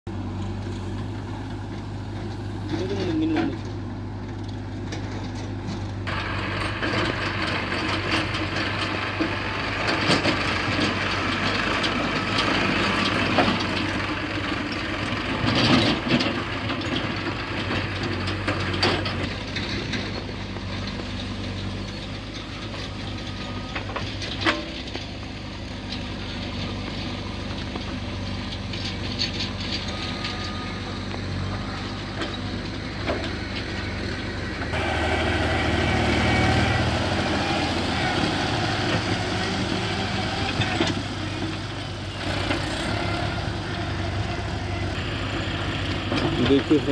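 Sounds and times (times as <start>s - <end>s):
diesel engines droning: 0.1s - 46.9s
tractor pulling rattling trolley: 0.1s - 46.9s.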